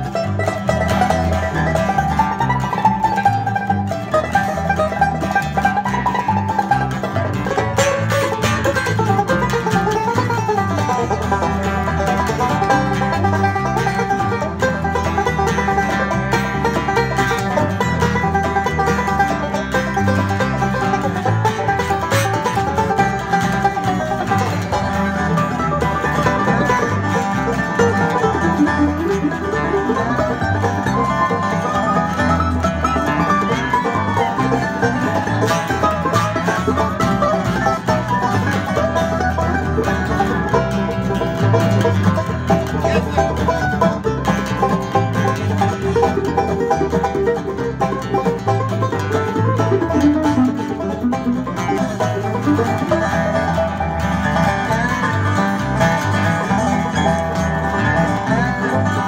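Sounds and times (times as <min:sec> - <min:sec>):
acoustic guitars strumming: 0:00.0 - 0:59.0
picked string lead: 0:00.0 - 0:59.0.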